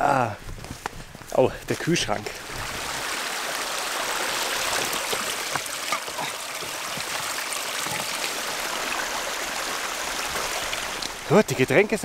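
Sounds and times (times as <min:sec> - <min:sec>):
stream splashing over stones: 0:01.9 - 0:12.0.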